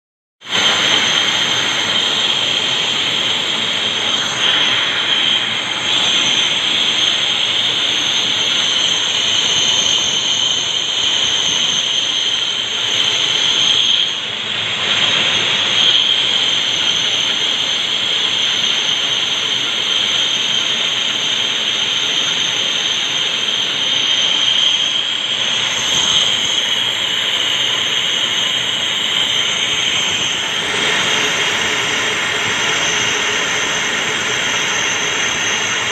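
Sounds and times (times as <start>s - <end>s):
high whine: 0.4s - 35.9s
metal lathe machining hiss: 0.5s - 35.9s.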